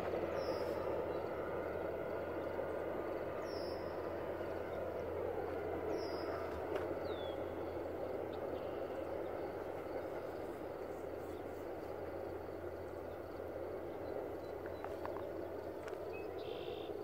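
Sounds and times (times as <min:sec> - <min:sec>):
distant train rumbling on viaduct: 0:00.0 - 0:17.0.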